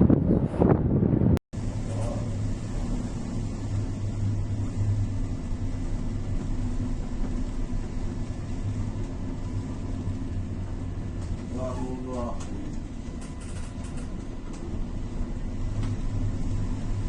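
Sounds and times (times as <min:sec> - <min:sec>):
machinery rumbling and humming: 0:00.0 - 0:17.0.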